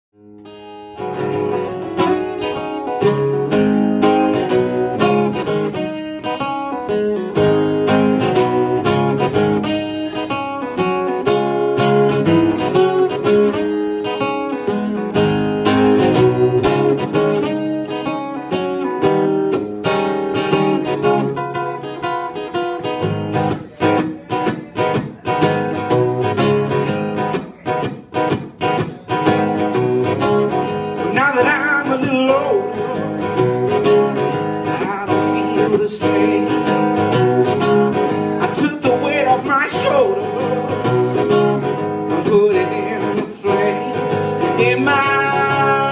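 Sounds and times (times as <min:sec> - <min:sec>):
acoustic blues guitar: 0:00.2 - 0:45.9.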